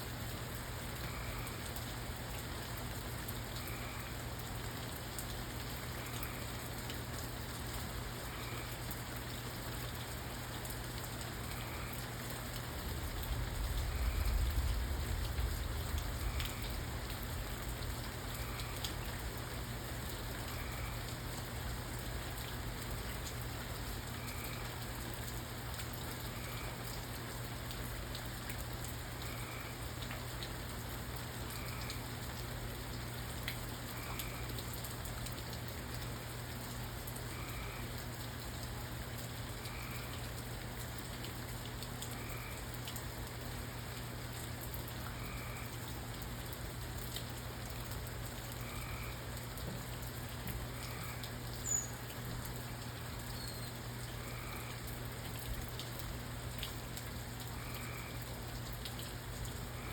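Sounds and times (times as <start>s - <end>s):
steady rain falling: 0.0s - 59.9s
drips ticking: 0.4s - 59.9s.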